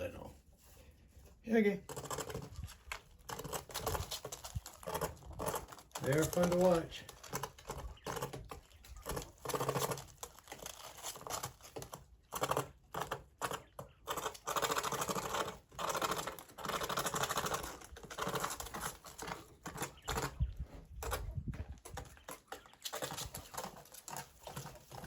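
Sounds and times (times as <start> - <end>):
quail pecking: 0.0 - 25.0.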